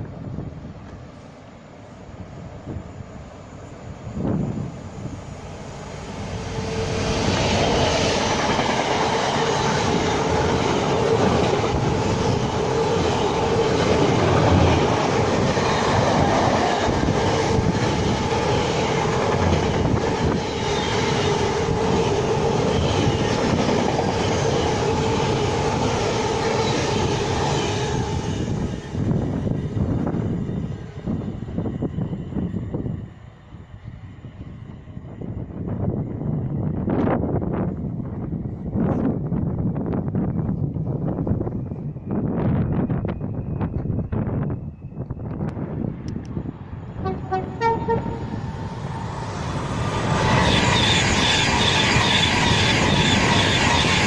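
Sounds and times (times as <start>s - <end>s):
train rail noise: 0.0s - 54.0s.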